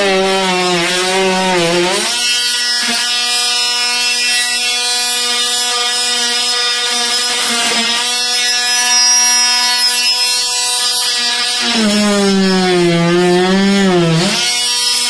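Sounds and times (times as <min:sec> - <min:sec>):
oscillating multi-tool buzzing: 0:00.0 - 0:15.0.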